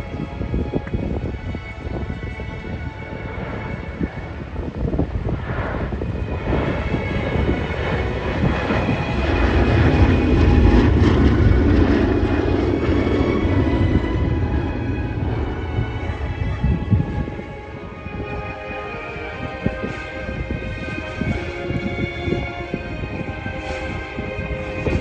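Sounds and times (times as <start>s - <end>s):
propeller plane flying past: 0.0s - 25.0s.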